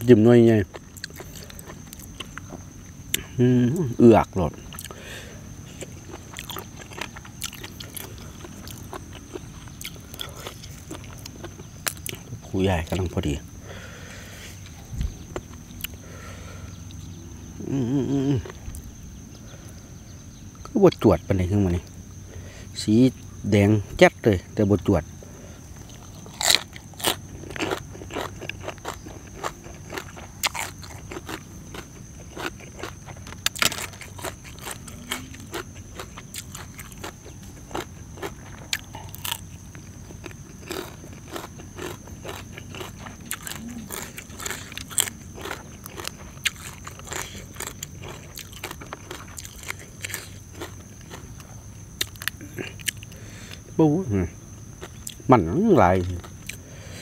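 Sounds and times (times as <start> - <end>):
person crunching and chewing food: 0.0 - 3.3, 4.2 - 19.0, 25.6 - 53.7, 54.4 - 57.0.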